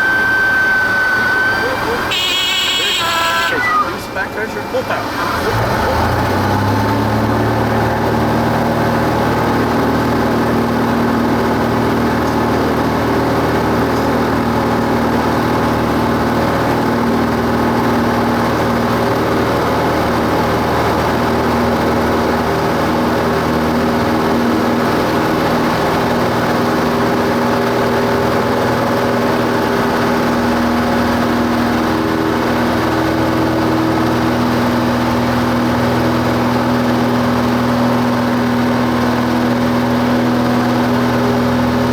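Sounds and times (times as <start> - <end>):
propeller plane engine drone: 0.0 - 41.9.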